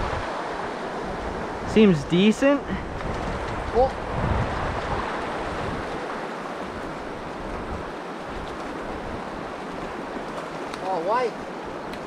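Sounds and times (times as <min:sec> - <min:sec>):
river rushing over gravel: 0:00.0 - 0:12.0.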